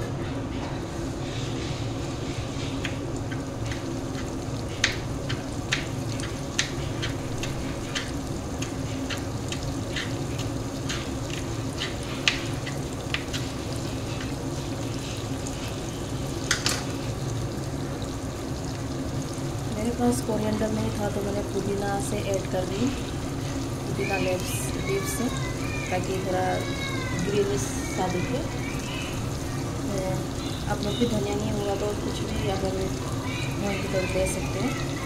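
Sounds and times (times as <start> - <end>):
low steady hum: 0.0 - 35.0
gravy simmering and popping: 2.1 - 35.0.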